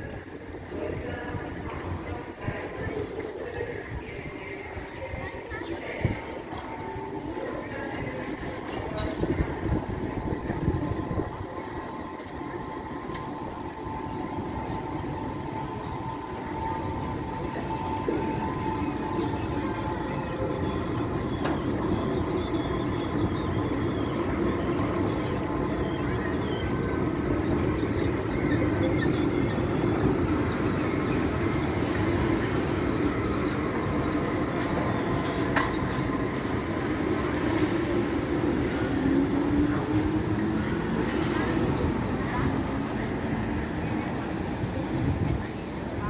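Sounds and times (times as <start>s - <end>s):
tram wheels rumbling on rails: 0.0s - 46.0s.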